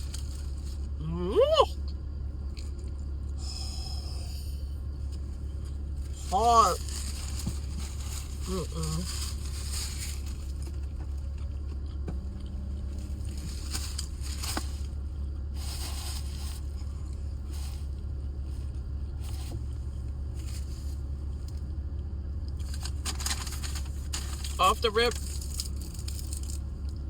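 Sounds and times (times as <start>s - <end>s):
chewing and crunching food: 0.0s - 1.0s, 1.8s - 3.4s, 4.9s - 27.0s
low hum: 0.0s - 27.0s.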